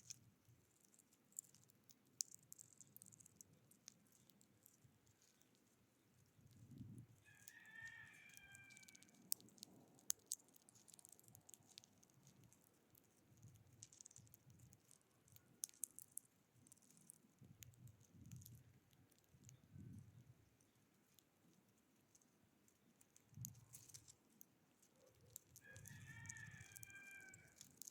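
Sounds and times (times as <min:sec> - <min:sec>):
faint sharp clicks and taps: 0:00.0 - 0:27.9.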